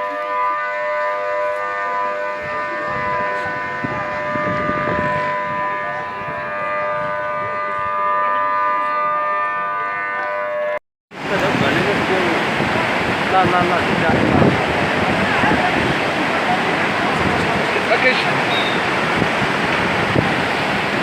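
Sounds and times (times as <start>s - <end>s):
flood warning siren steady tone: 0.0s - 21.0s.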